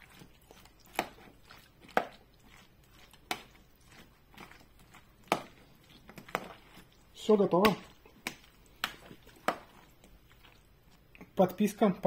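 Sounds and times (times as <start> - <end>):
spoon stirring salad: 0.0 - 11.9.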